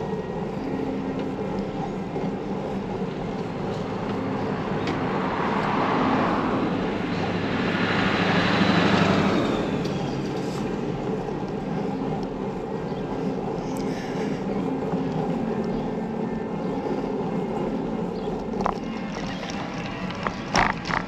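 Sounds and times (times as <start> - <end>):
road and wind noise: 0.0 - 21.0
truck passing: 2.7 - 21.0.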